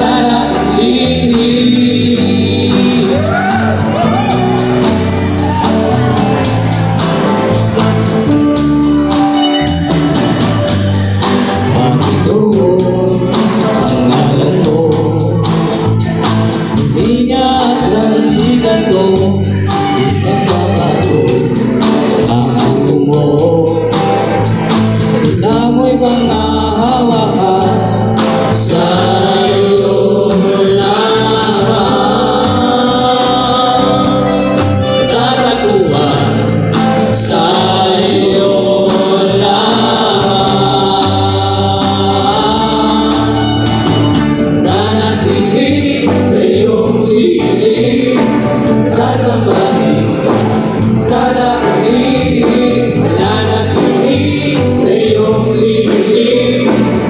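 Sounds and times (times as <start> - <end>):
men's group singing gospel: 0.0 - 8.6, 9.8 - 57.0
live band playing: 0.0 - 57.0.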